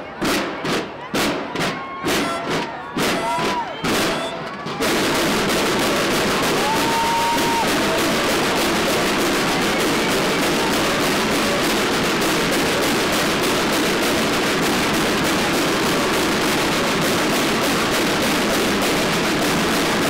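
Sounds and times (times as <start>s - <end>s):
parade crowd noise: 0.0s - 20.0s.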